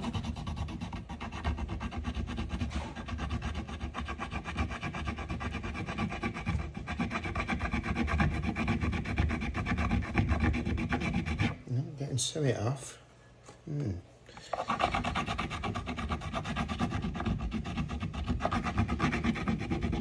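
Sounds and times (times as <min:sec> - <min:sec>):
iron scraping against tablet: 0:00.0 - 0:11.6, 0:14.4 - 0:20.0.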